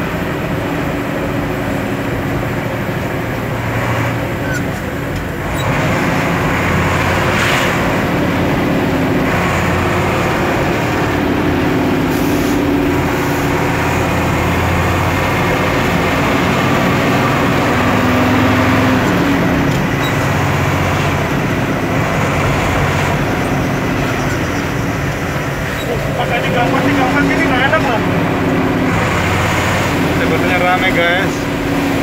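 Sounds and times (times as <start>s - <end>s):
fire truck engine running: 0.0s - 32.0s
road noise: 0.0s - 32.0s.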